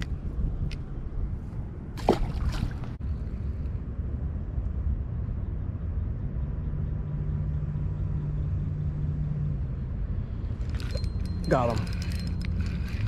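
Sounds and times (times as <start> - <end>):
low outdoor rumble: 0.0 - 13.0
distant engine drone: 2.0 - 13.0.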